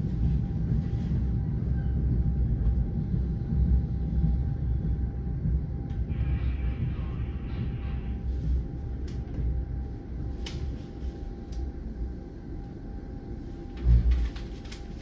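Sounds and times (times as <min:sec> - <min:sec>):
railcar rolling rumble: 0:00.0 - 0:15.0.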